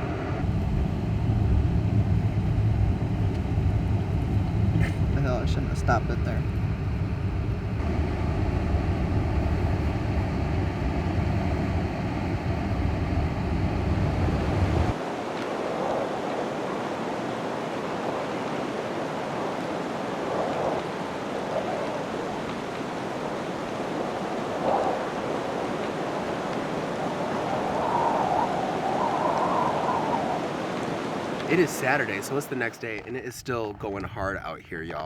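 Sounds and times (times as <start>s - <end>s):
blizzard wind hissing: 0.0s - 33.9s
wind buffeting microphone: 0.0s - 34.4s.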